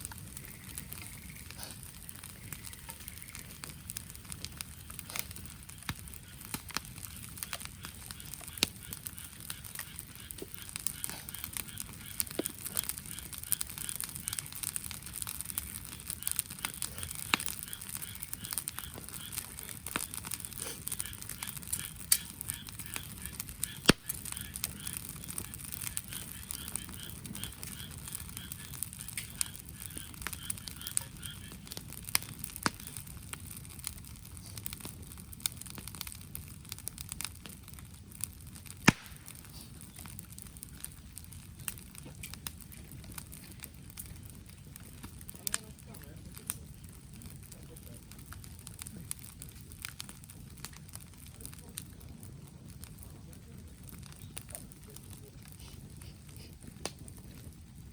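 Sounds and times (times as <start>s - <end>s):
fire pops: 0.0s - 57.9s
wood fire crackling: 0.0s - 57.9s.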